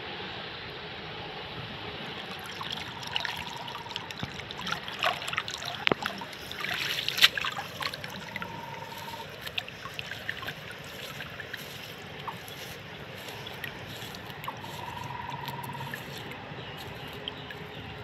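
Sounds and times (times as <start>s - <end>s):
water trickling and splashing: 2.0s - 18.0s
water drips: 2.1s - 18.0s.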